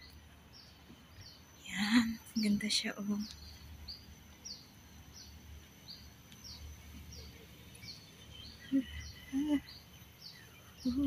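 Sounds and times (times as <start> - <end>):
bird chirping: 0.0 - 11.0
low outdoor rumble: 0.0 - 11.0.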